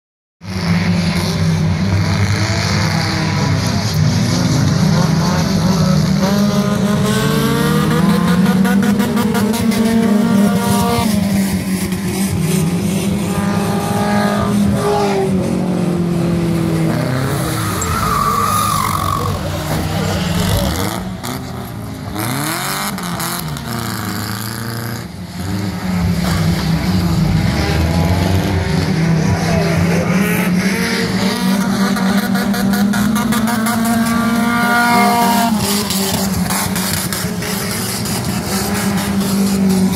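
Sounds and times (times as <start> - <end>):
race car engines revving: 0.4 - 39.9.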